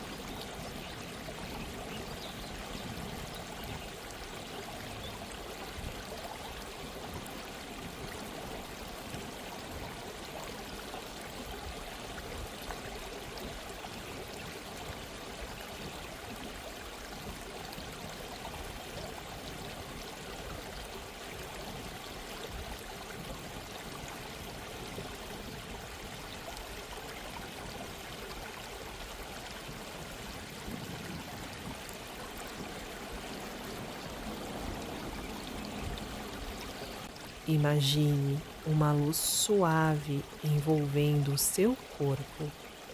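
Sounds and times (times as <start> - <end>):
stream trickling: 0.0 - 42.9.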